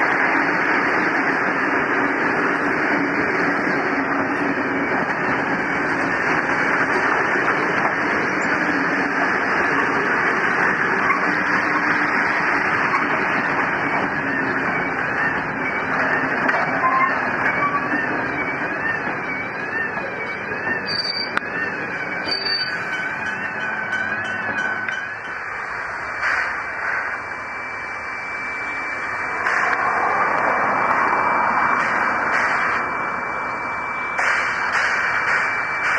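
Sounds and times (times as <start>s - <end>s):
train wheels clattering on track: 0.0s - 25.4s, 29.4s - 31.0s, 31.7s - 32.8s, 34.2s - 35.9s
siren rising and falling: 0.0s - 35.9s.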